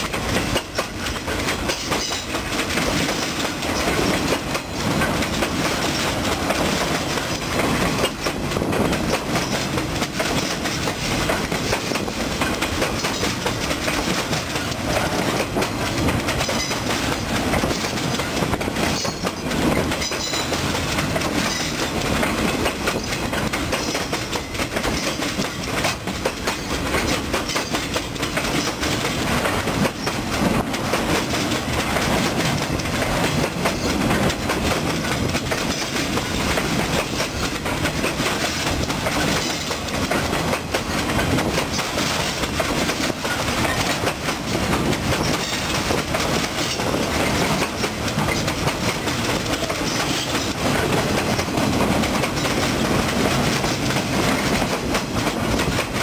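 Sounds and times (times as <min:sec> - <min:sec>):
steel wheels rumbling on rails: 0:00.0 - 0:56.0
wheels clicking over rail joints: 0:00.0 - 0:56.0.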